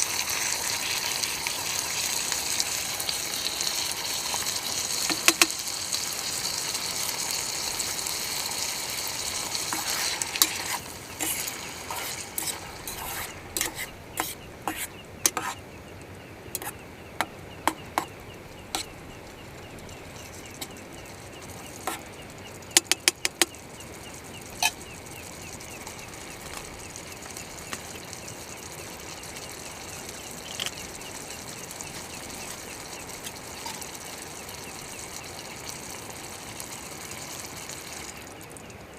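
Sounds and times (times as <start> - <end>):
food sizzling in a pan: 0.0 - 15.6, 17.3 - 38.2.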